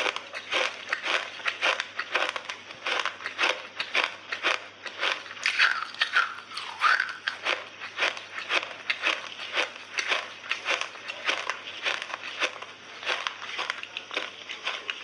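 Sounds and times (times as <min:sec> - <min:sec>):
crunching and chewing clay: 0:00.0 - 0:15.0.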